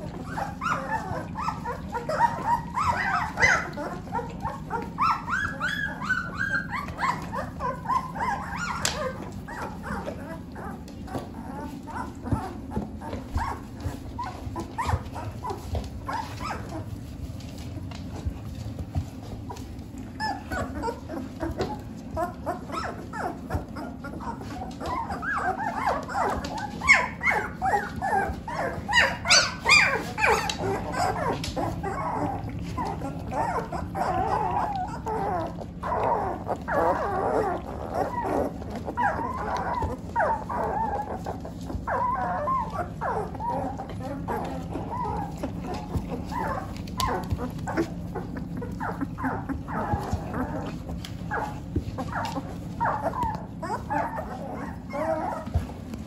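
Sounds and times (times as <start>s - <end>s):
puppies whining and squealing: 0.0s - 56.0s
steady low hum: 0.0s - 56.0s.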